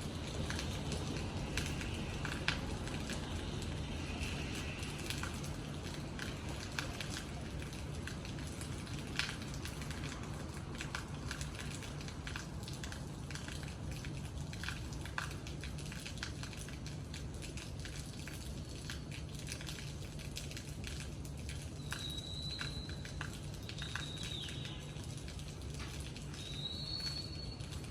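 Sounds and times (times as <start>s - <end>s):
steady rain: 0.0s - 27.9s.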